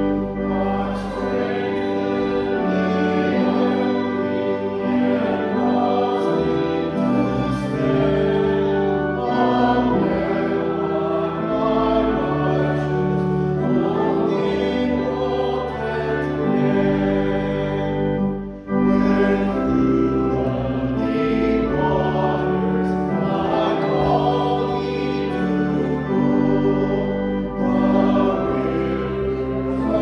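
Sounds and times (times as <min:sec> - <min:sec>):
congregation singing a hymn: 0:00.0 - 0:30.0.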